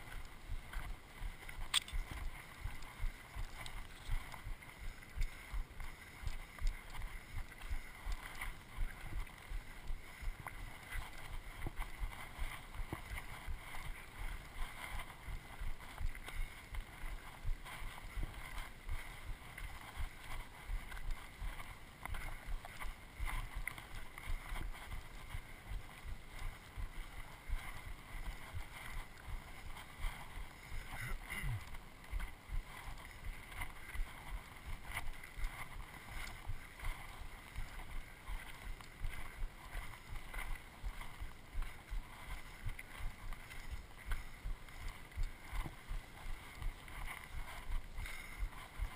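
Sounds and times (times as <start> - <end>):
footsteps on dirt trail: 0.0 - 48.9
rustle of clothing and brush: 0.0 - 48.9.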